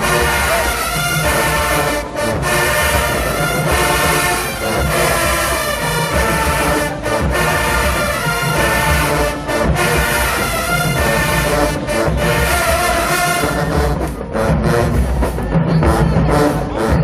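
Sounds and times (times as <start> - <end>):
brass section: 0.0 - 17.0
heavy drum beat: 0.0 - 17.0
marching band playing: 0.0 - 17.0.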